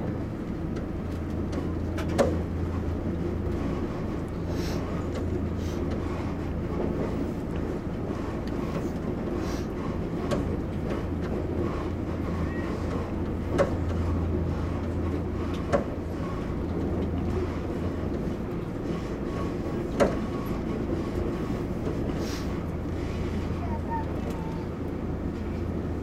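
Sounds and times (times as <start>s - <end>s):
train hum and rumble: 0.0s - 26.0s.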